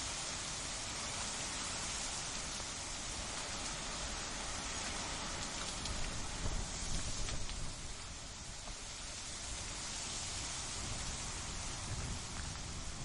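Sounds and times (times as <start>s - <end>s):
wind blowing: 0.5s - 13.0s
wind gusts rumbling low: 2.2s - 13.0s.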